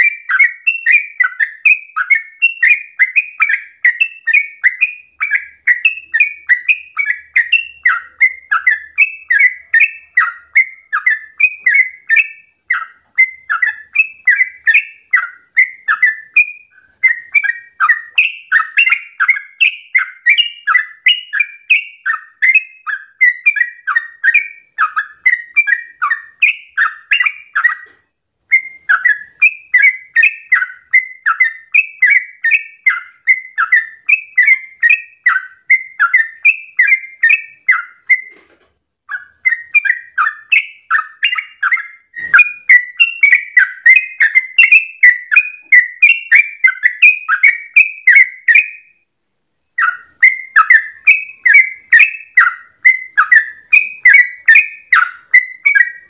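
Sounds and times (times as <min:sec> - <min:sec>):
bird singing fast chirps: 0:00.0 - 0:38.4, 0:39.1 - 0:49.0, 0:49.7 - 0:56.0.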